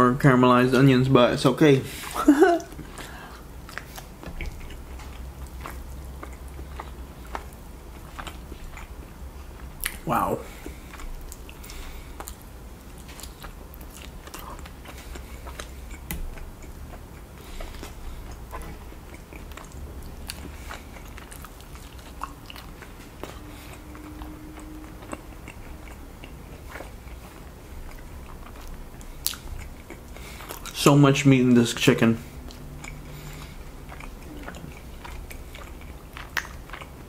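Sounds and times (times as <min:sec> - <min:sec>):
chewing and lip-smacking: 0:02.0 - 0:37.0.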